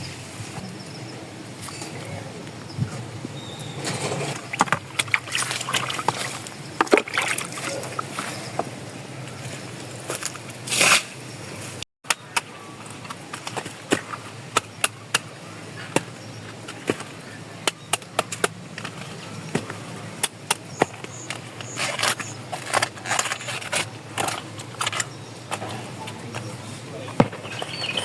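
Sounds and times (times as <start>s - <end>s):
rough scraping noises: 1.6s - 11.8s, 15.7s - 28.0s.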